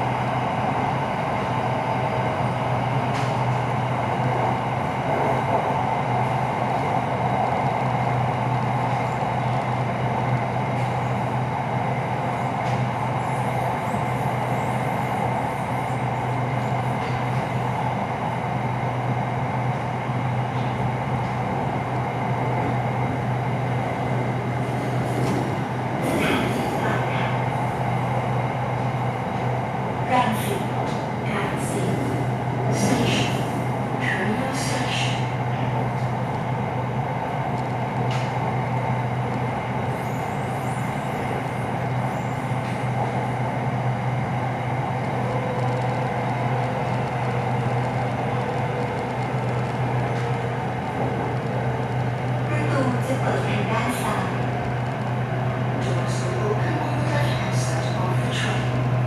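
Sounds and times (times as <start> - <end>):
electric train rumbling: 0.0 - 59.0.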